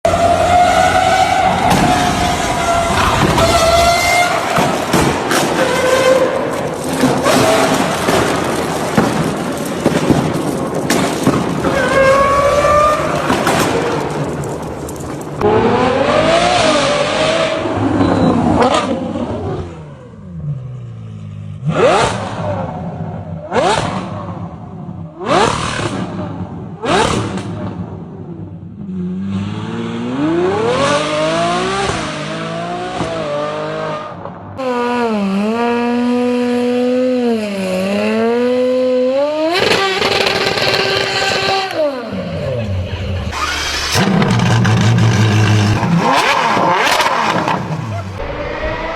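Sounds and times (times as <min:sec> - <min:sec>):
supercar engines revving: 0:00.1 - 0:48.9.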